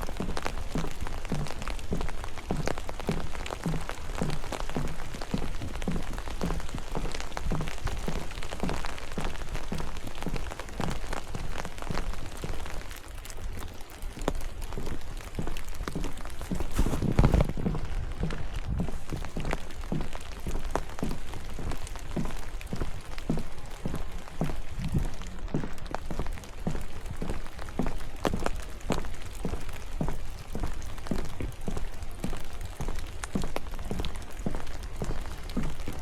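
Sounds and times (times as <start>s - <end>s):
footsteps walking: 0.0s - 36.0s
rain pattering: 0.0s - 36.0s.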